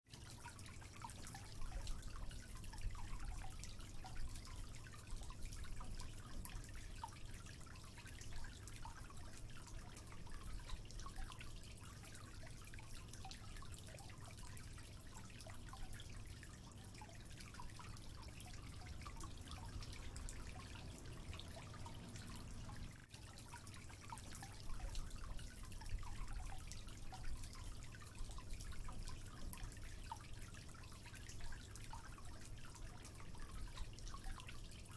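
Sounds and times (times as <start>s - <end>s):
water dripping: 0.1s - 34.9s.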